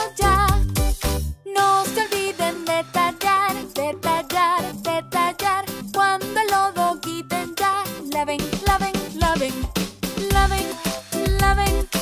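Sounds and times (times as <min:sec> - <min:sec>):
children's music with bouncy melody: 0:00.0 - 0:12.0.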